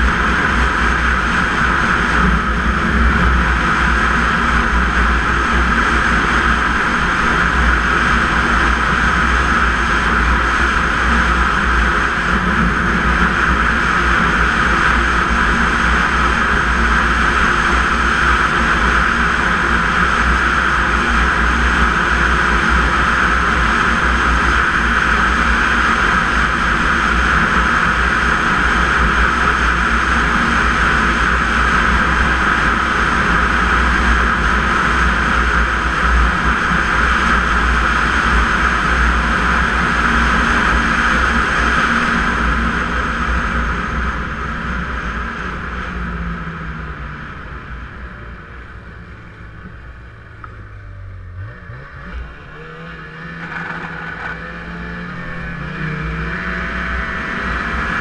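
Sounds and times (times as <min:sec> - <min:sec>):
snowmobile engine droning: 0:00.0 - 0:58.0
wind rumble on microphone: 0:00.0 - 0:58.0.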